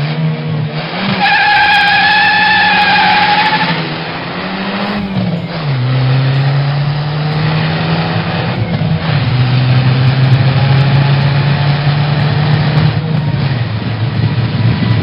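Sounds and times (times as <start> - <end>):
car engine running: 1.0 - 15.0.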